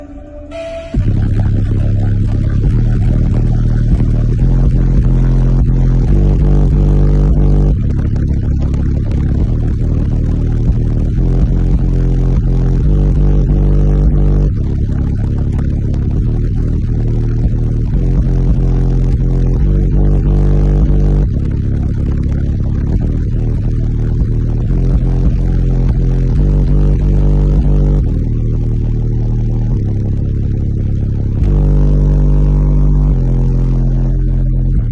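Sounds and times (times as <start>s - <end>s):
subwoofers playing heavy bass: 0.0s - 34.9s.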